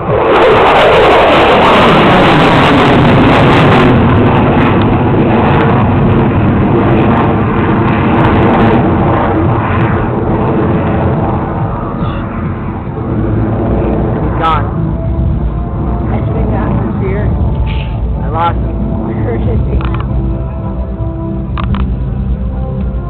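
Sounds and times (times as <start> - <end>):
fighter jet engine roar: 0.0 - 23.0.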